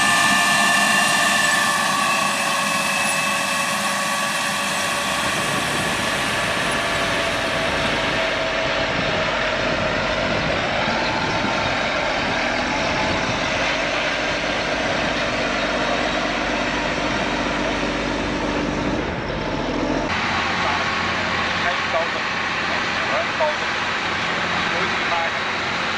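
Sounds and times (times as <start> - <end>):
tractor engine running under load: 3.5 - 25.9.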